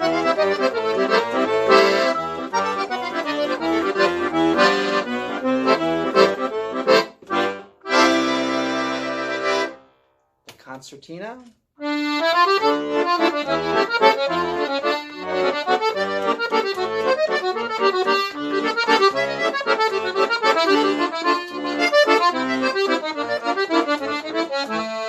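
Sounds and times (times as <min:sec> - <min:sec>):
accordion playing a tune: 0:00.0 - 0:09.9, 0:11.8 - 0:25.0.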